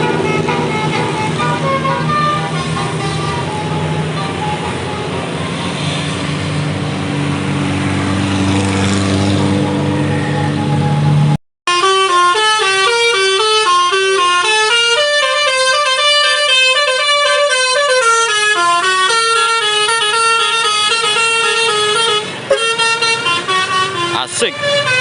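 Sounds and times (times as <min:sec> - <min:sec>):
bus musical horn tune: 0:00.0 - 0:05.7, 0:09.3 - 0:25.0.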